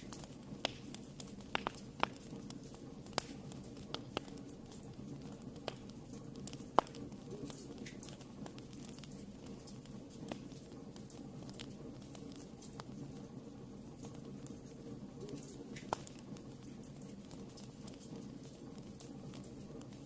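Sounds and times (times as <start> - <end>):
wood fire burning: 0.0 - 20.0.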